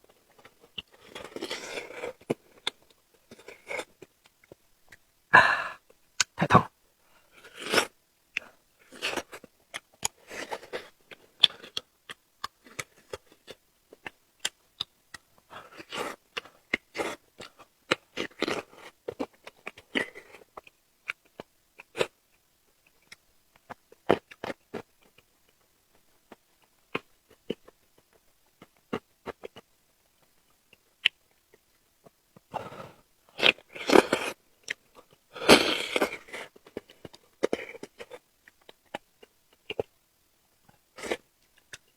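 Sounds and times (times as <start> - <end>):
chewing and crunching: 0.1 - 5.0, 7.3 - 40.0, 40.7 - 41.9.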